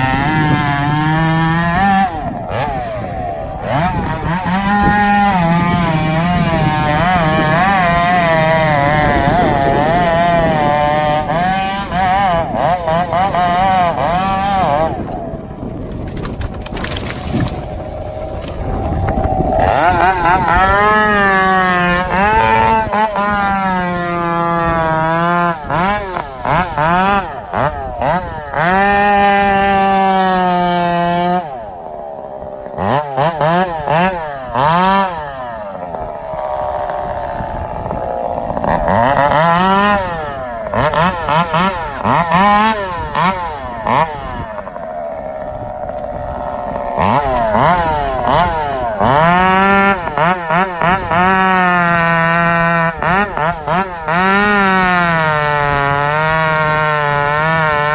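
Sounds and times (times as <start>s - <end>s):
chainsaw cutting timber: 0.0s - 57.9s
chainsaw throttle blips: 0.0s - 57.9s.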